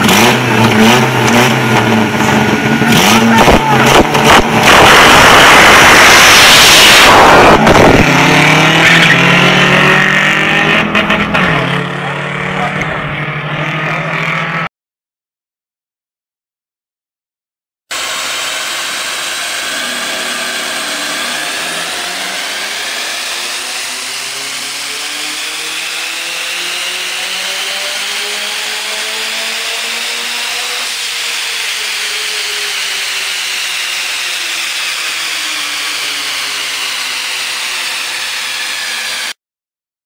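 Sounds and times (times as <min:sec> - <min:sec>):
turbocharged car engine revving: 0:00.0 - 0:14.7, 0:17.9 - 0:39.4.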